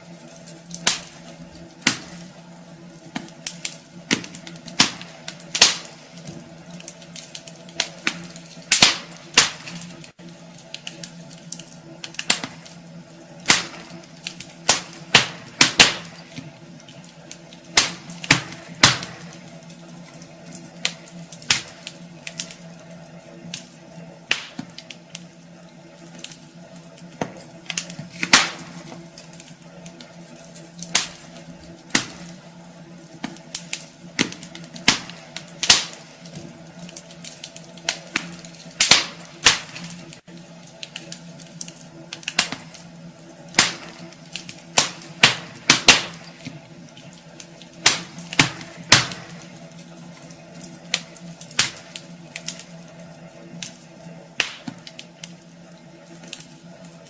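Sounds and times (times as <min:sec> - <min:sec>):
fire crackling and popping: 0:00.0 - 0:57.0
low steady hum: 0:00.0 - 0:57.0.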